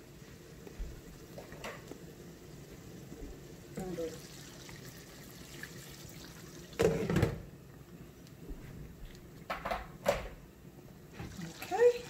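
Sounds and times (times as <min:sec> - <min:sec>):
faint liquid sound: 0:00.0 - 0:09.4, 0:11.1 - 0:12.0.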